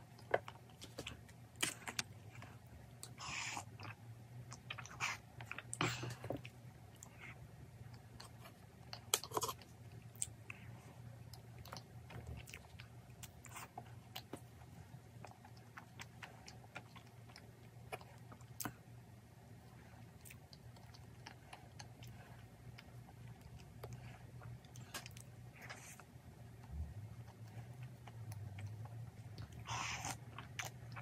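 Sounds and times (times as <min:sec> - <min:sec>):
chewing cake: 0:00.0 - 0:31.0
low steady hum: 0:00.0 - 0:31.0.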